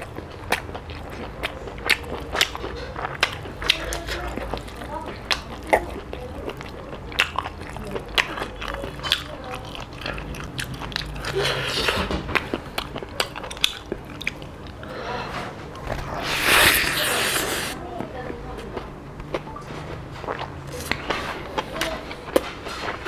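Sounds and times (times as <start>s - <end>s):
person chewing and lip-smacking: 0.0s - 14.8s, 16.0s - 23.0s.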